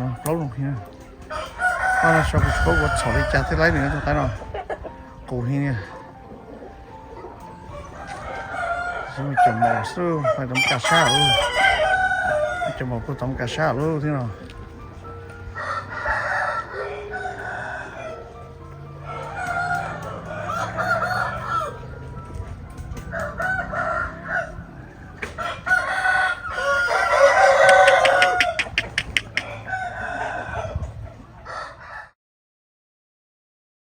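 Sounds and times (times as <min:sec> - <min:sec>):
chickens clucking: 0:00.0 - 0:32.2
roosters crowing: 0:01.2 - 0:32.2.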